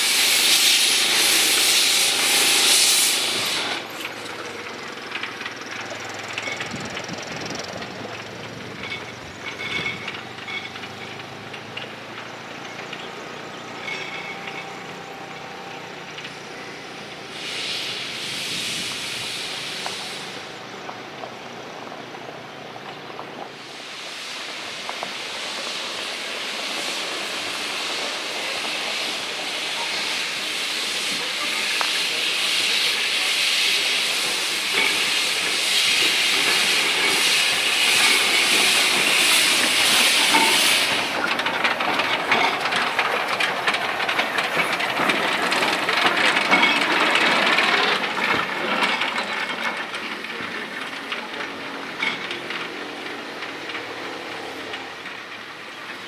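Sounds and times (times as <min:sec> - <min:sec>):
steam hissing from locomotive: 0:00.0 - 0:11.4, 0:12.0 - 0:21.1, 0:23.5 - 0:56.0
train wheels clicking over rail joints: 0:00.0 - 0:56.0.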